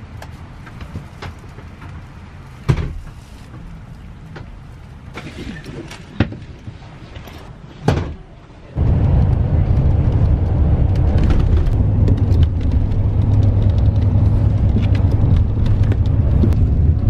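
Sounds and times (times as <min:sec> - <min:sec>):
bus engine rumbling: 0:00.0 - 0:17.0
traffic: 0:00.0 - 0:17.0.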